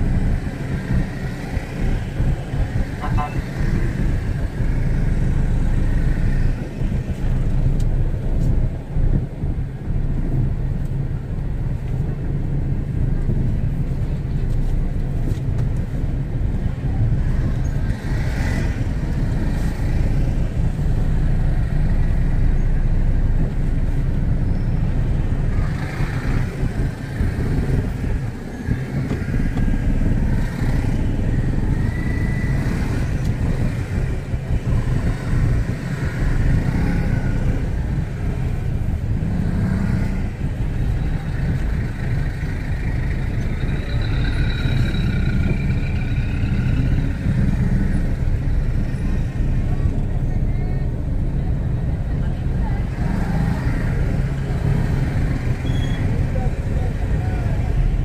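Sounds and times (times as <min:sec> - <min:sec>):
motorcycles passing close: 0:00.0 - 0:10.5, 0:13.2 - 0:58.0
low rumble of traffic engines: 0:00.0 - 0:58.0.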